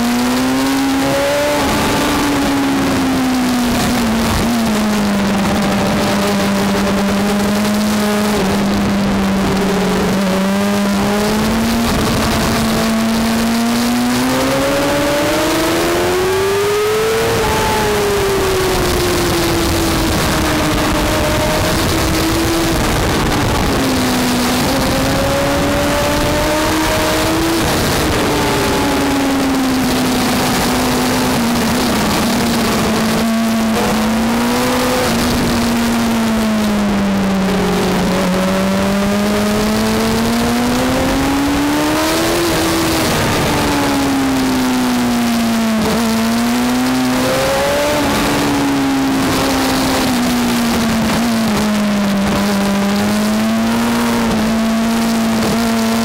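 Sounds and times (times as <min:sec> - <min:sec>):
racing engine at high revs: 0:00.0 - 0:56.0
wind and road noise: 0:00.0 - 0:56.0.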